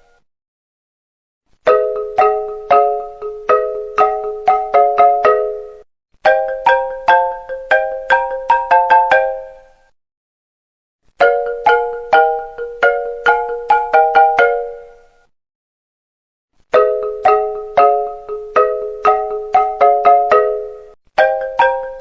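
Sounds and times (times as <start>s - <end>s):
marimba-like ringtone melody: 1.6s - 9.9s, 11.2s - 15.3s, 16.7s - 22.0s.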